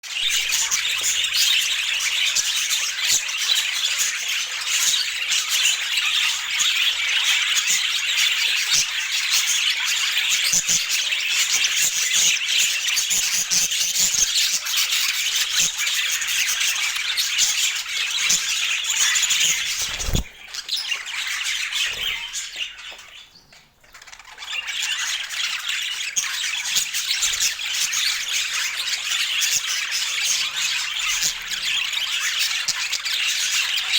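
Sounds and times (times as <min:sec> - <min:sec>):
budgerigars chattering: 0:00.2 - 0:33.9.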